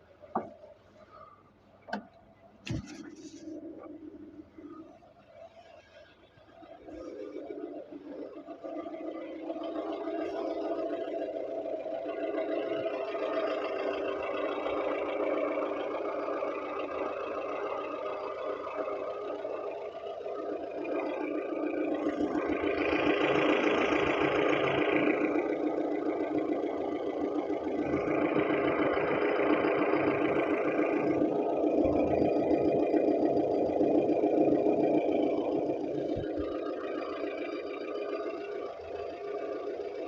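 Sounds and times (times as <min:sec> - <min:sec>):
petrol engine running: 0:00.0 - 0:40.0.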